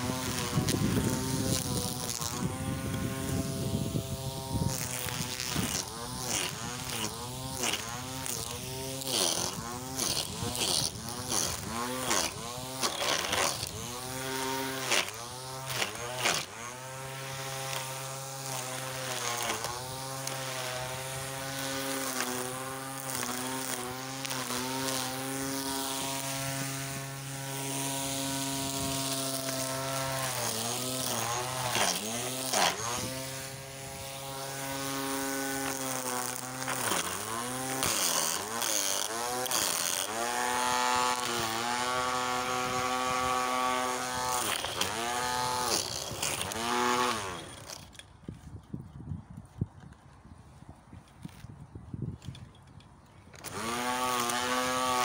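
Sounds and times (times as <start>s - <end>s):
string trimmer motor whining: 0.0s - 50.3s, 51.0s - 55.0s.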